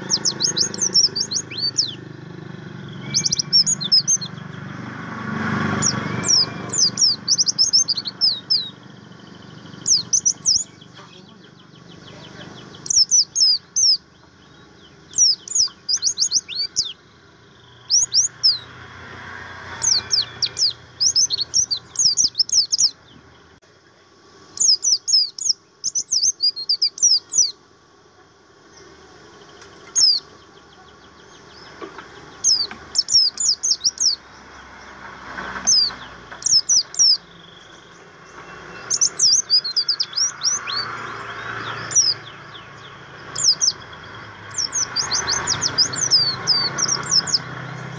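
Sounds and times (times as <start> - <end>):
bird chirping: 0.0 - 47.9.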